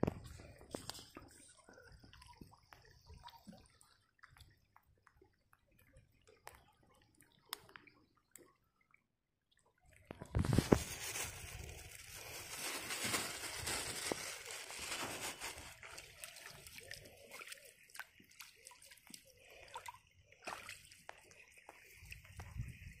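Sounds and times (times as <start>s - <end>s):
water dripping: 0.0s - 10.4s, 14.9s - 23.0s
water sloshing and splashing: 0.0s - 23.0s.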